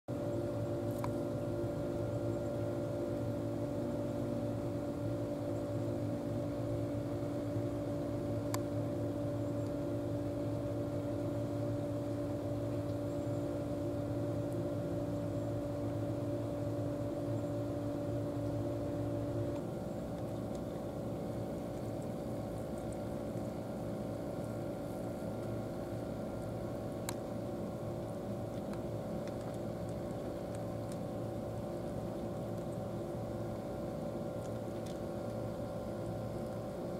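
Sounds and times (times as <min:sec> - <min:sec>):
motor droning: 0:00.2 - 0:36.9.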